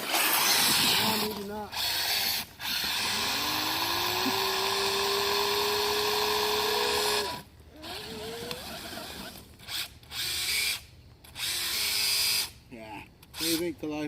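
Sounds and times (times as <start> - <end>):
electric motor whining: 0.0 - 12.6.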